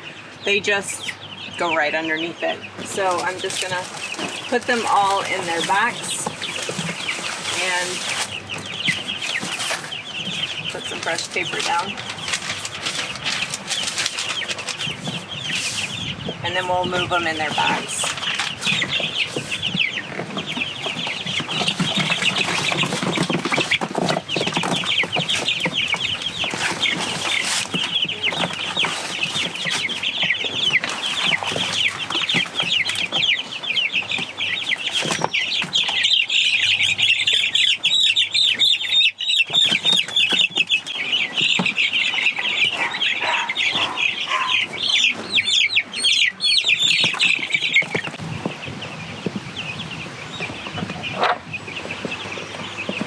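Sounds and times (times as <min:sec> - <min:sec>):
chicks peeping: 0:00.0 - 0:53.0
knocks and scuffling: 0:02.7 - 0:53.0.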